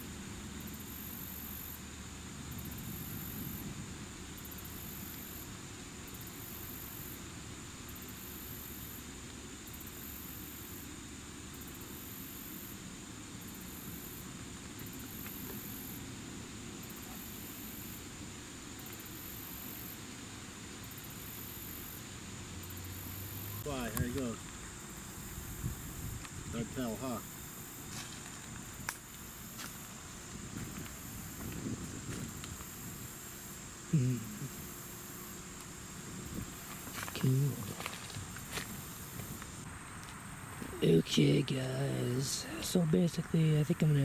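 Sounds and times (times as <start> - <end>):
high-pitched insect trill: 0.0 - 44.0.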